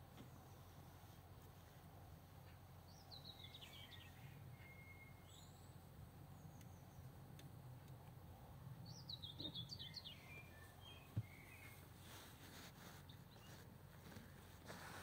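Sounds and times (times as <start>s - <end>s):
faint birdsong: 0.0s - 15.0s
low steady hum: 0.0s - 15.0s.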